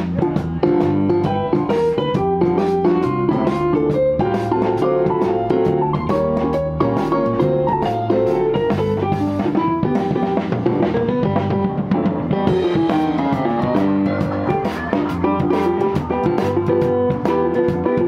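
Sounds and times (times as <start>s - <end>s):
digital piano: 0.0s - 18.0s
drum kit with cymbals: 0.0s - 18.0s
electric bass guitar: 0.0s - 18.0s.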